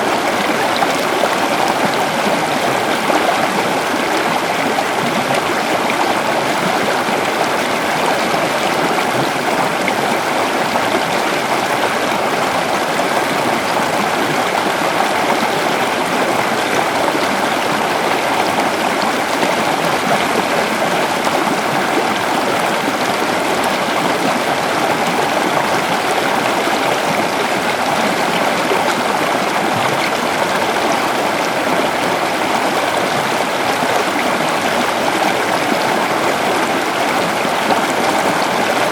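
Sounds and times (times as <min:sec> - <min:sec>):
river flowing over rocks: 0:00.0 - 0:38.9.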